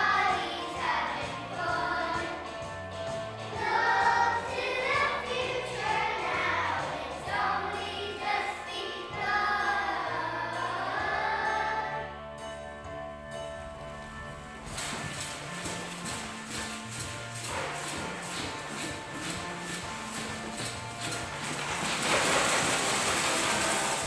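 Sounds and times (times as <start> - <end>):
children's choir singing: 0.0 - 12.4, 14.1 - 24.0
instrumental accompaniment: 0.0 - 24.0.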